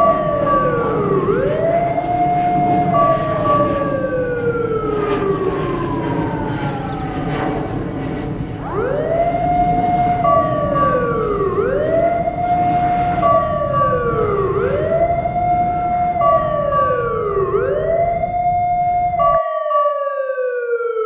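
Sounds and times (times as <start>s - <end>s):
constant rushing noise: 0.0s - 19.4s
emergency siren wailing: 0.0s - 21.0s.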